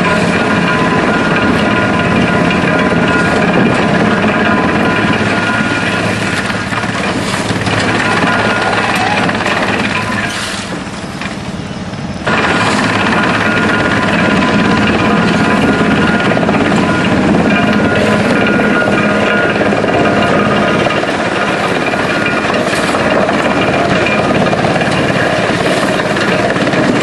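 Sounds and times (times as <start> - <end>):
wood chipper droning: 0.0 - 27.0.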